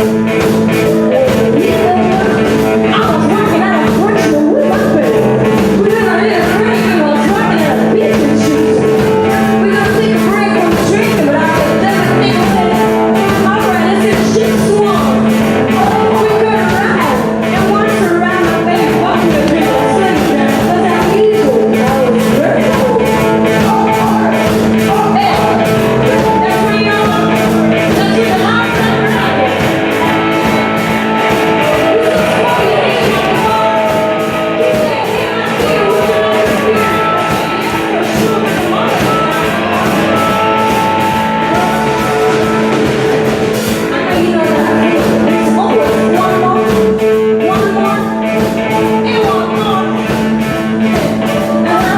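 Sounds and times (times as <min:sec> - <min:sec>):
blues-rock band playing boogie: 0:00.0 - 0:51.9
guitar: 0:00.0 - 0:51.9
steady drumbeat: 0:00.0 - 0:51.9.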